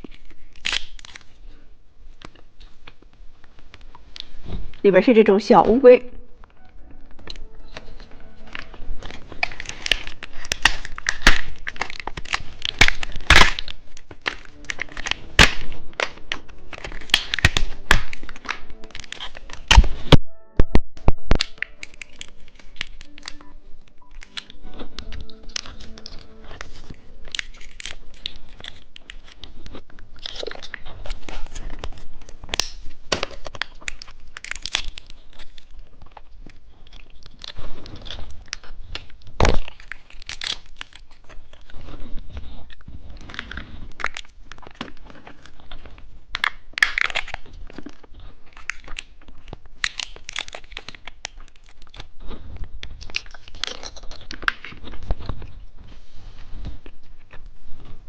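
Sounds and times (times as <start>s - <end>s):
plastic packaging crinkling: 0.0s - 4.9s, 6.3s - 20.2s, 21.0s - 58.0s.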